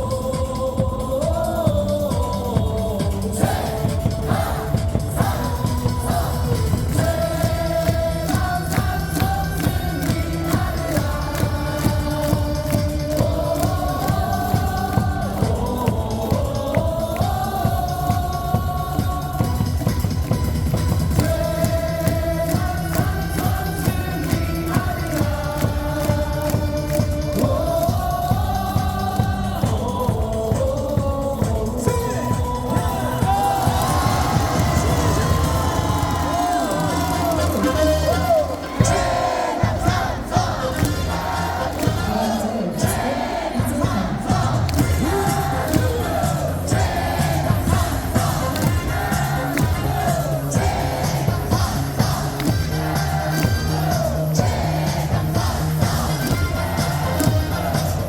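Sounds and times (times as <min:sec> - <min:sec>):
amplified music with sung melody: 0:00.0 - 0:58.0
cheer song over stadium speakers: 0:00.0 - 0:58.0
crowd singing along: 0:00.0 - 0:58.0.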